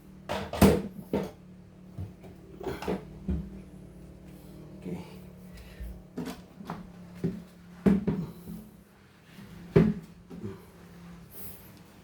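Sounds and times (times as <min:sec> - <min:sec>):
steady low hum: 0:00.9 - 0:12.0.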